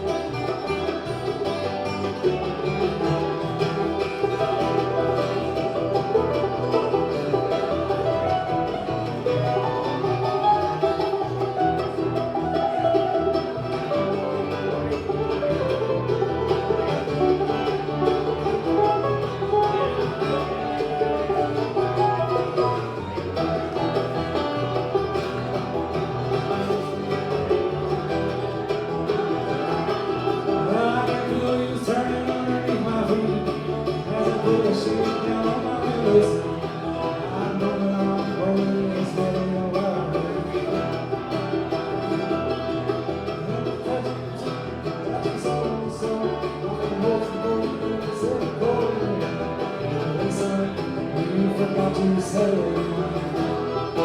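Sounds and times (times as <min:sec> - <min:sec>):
acoustic guitar: 0:00.0 - 0:54.0
banjo: 0:00.0 - 0:54.0.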